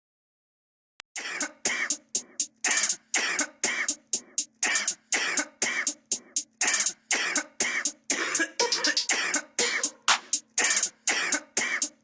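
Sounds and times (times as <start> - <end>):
hip-hop beat of sampled coughs: 1.2 - 12.0.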